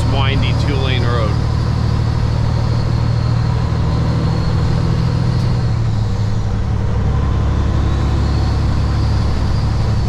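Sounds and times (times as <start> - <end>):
road noise: 0.0 - 10.0
truck diesel engine droning: 0.0 - 10.0.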